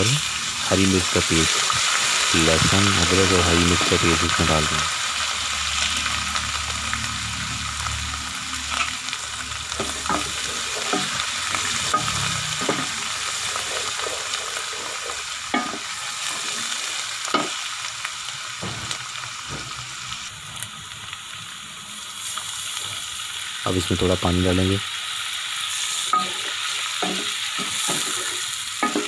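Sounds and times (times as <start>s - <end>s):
food sizzling in hot fat: 0.0s - 29.0s.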